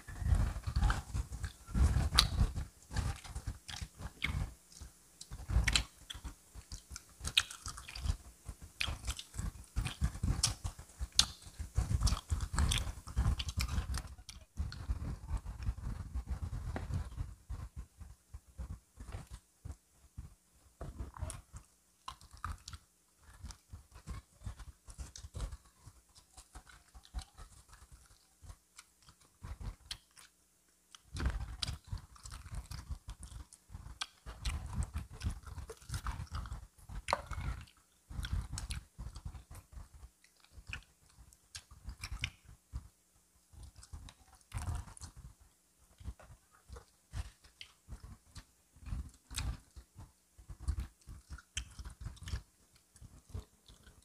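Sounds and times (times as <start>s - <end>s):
crunching fried chicken: 0.1s - 17.3s, 21.0s - 42.9s, 46.0s - 54.0s.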